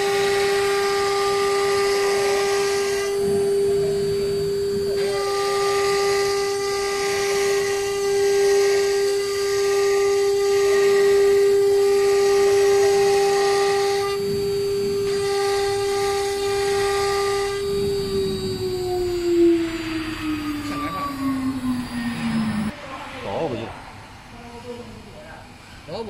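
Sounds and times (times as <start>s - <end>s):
bit cutting wood hiss: 0.0s - 22.8s
spindle high whine: 0.0s - 26.0s.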